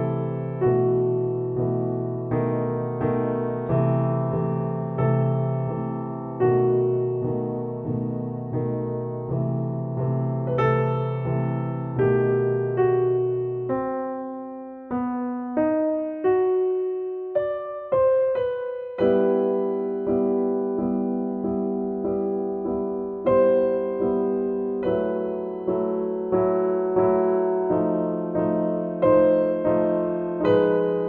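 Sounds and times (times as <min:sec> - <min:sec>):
slow piano music: 0:00.0 - 0:31.0.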